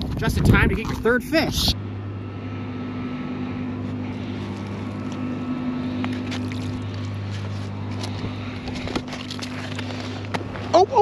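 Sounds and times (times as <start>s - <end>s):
engine idling: 1.4s - 11.0s.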